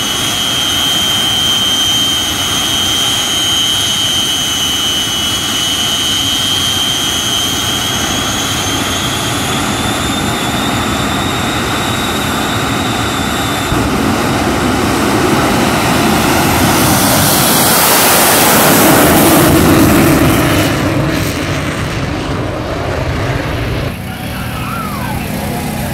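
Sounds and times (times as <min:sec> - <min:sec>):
jet engine roar: 0:00.0 - 0:25.9
turbine whine: 0:00.0 - 0:25.9.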